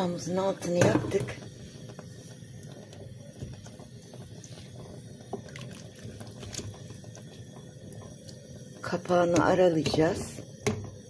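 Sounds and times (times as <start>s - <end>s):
water sloshing in a pot: 0.0s - 11.0s.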